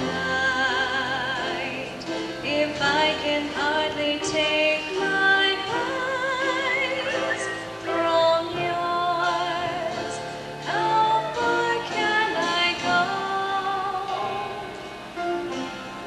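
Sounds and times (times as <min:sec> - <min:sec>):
girl singing into a microphone: 0:00.0 - 0:14.8
musical accompaniment: 0:00.0 - 0:16.0.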